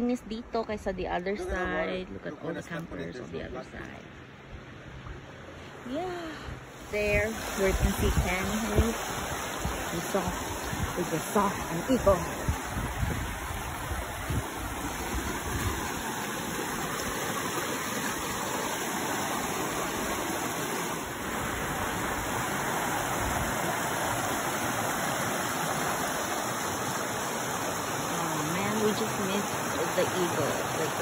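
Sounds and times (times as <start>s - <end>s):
creek water rushing over stones: 4.7s - 31.0s.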